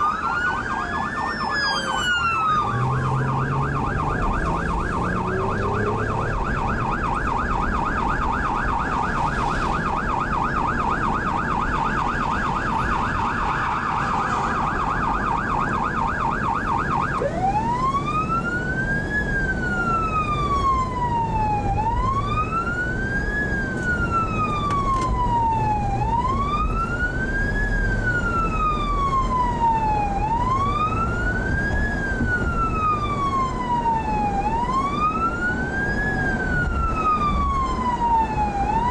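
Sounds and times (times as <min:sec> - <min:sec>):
police siren yelp and wail: 0:00.0 - 0:38.9
road noise: 0:00.0 - 0:38.9.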